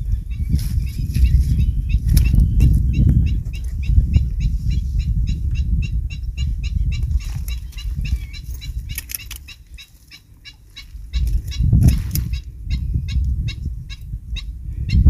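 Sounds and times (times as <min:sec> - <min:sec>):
low rumbling buffeting: 0:00.0 - 0:15.0.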